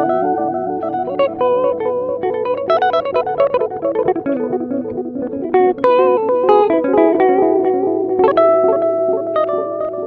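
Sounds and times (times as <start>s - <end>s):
electric guitar with echo delay: 0.0s - 10.0s.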